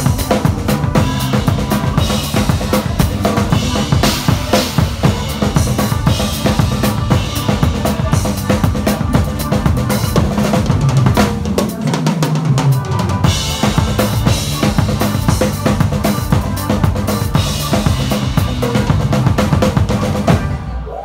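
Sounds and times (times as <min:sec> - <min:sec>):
band music: 0:00.0 - 0:21.0
drum kit playing: 0:00.0 - 0:21.0.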